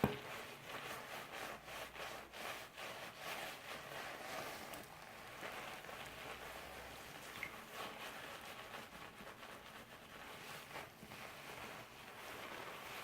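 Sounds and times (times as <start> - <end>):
wet hair being scrubbed: 0.0 - 13.0.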